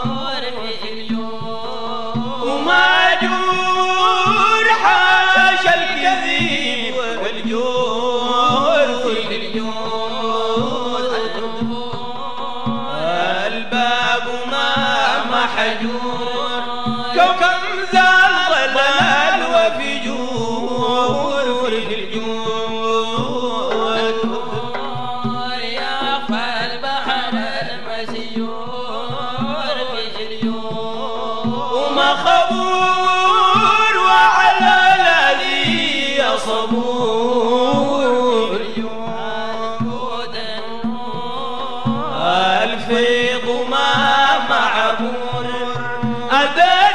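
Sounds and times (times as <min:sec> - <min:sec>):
men singing and chanting: 0:00.0 - 0:46.9
steady drum beat: 0:00.0 - 0:46.9.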